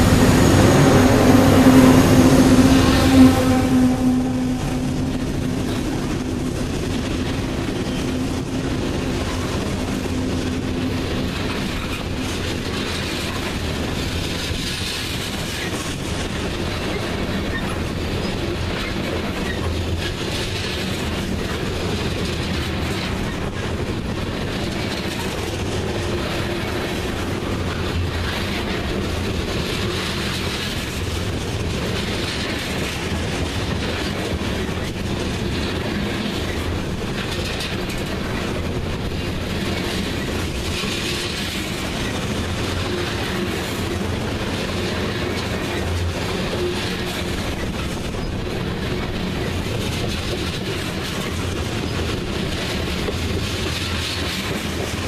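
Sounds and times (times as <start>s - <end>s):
steel train wheels rumbling on rail: 0.0s - 55.0s.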